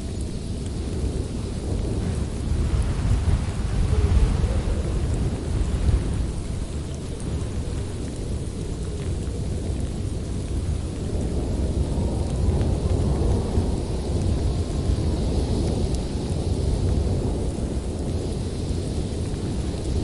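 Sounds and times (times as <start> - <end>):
rain hiss: 0.0 - 20.0
rolling thunder rumble: 0.0 - 20.0.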